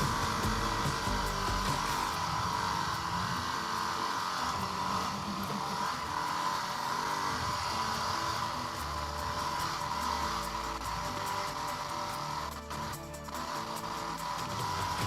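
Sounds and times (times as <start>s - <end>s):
motorcycle engine running at low revs: 0.0s - 15.0s.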